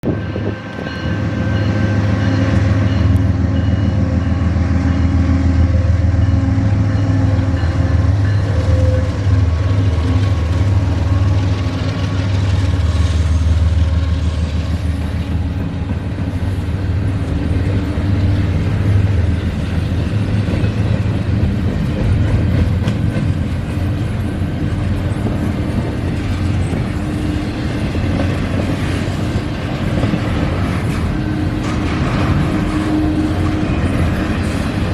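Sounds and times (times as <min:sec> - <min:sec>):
diesel locomotive engine drone: 0:00.0 - 0:34.9
train rumbling on rails: 0:00.0 - 0:34.9.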